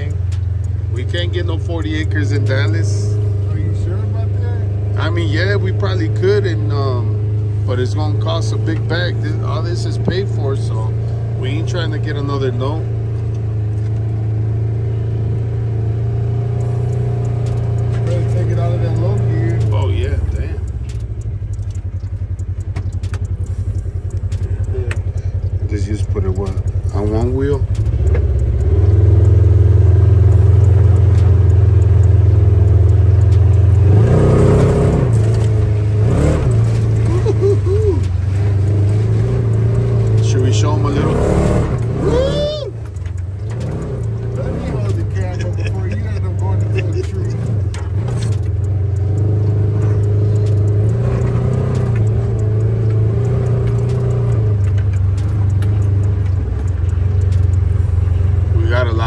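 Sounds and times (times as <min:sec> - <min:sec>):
vehicle engine droning: 0:00.0 - 0:59.0
vehicle rattling: 0:00.0 - 0:59.0.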